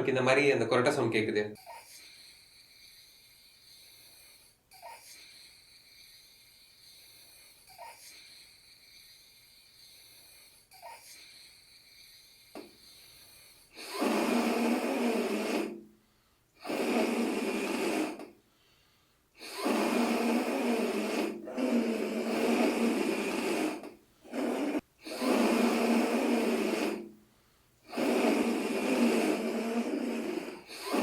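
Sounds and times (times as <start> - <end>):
air blown through tube rasping: 2.0 - 15.9, 16.6 - 18.4, 19.4 - 27.2, 27.8 - 31.0.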